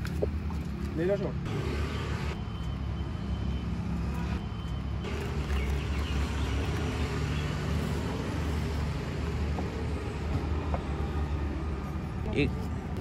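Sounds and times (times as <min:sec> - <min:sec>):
faint street bustle: 0:00.0 - 0:13.0
traffic engine rumble: 0:00.0 - 0:13.0.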